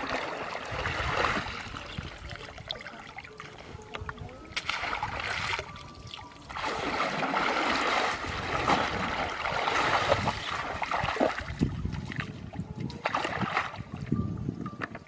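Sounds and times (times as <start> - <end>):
muddy water splashing: 0.0 - 14.1.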